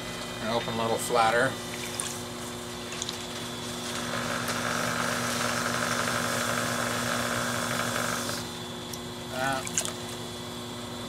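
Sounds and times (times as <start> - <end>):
potter's wheel motor hum: 0.0 - 11.0.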